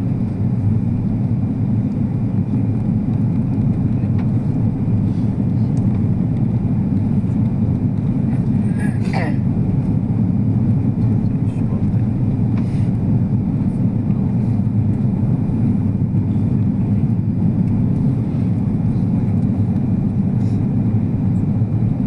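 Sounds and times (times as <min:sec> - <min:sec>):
airliner engines rumbling: 0:00.0 - 0:22.0
rushing air in cabin: 0:00.0 - 0:22.0.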